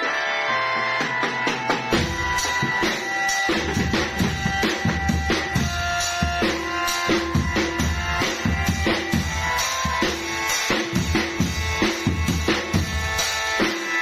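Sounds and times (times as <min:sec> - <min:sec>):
reedy melodic instrument: 0:00.0 - 0:14.0
heavy bass drum beats: 0:01.6 - 0:14.0.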